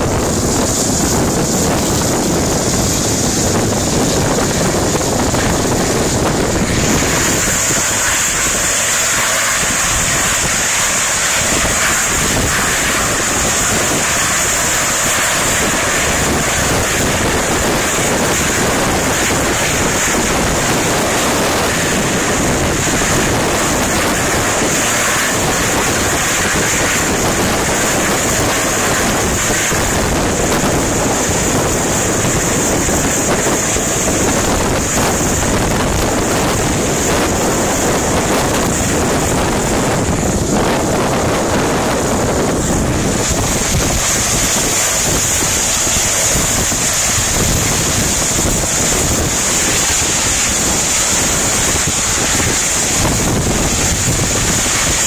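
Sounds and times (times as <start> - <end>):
helicopter hovering drone: 0.0 - 55.0
surf on rocks: 0.0 - 55.0
wind on microphone: 0.0 - 55.0.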